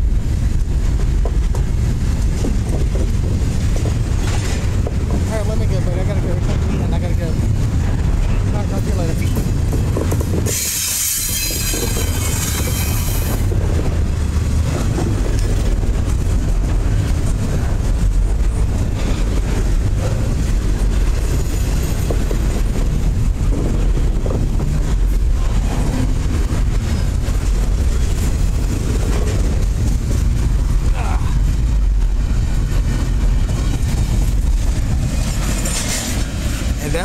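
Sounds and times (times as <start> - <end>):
freight cars rumbling: 0.0 - 37.0.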